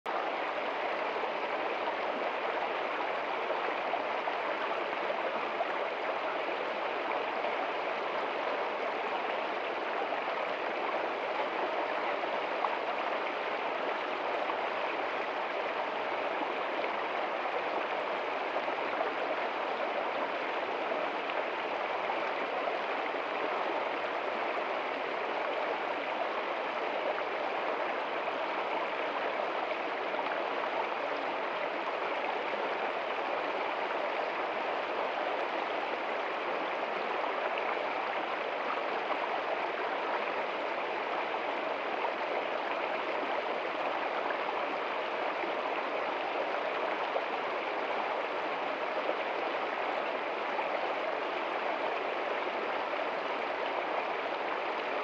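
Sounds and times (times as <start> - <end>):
stream rushing over rocks: 0.1 - 55.0.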